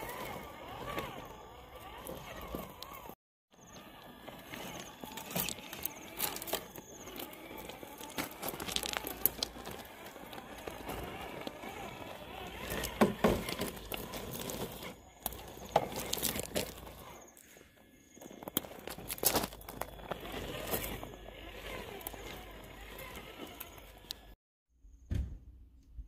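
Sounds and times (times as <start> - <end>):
gravel crunching under tyres: 0.0 - 24.4.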